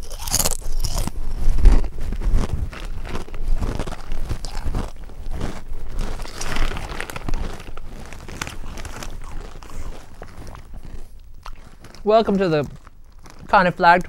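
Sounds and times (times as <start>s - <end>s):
plastic snack bag crinkling: 0.0s - 14.0s
small clicks and crunches: 0.0s - 14.0s.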